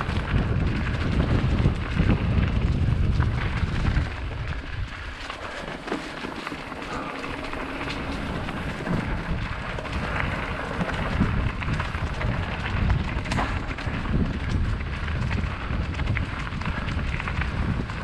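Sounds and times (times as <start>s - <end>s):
bike clicks and rattles: 0.0s - 18.0s
bike tyres crunching on dirt: 0.0s - 18.0s
wind buffeting microphone: 0.0s - 18.0s.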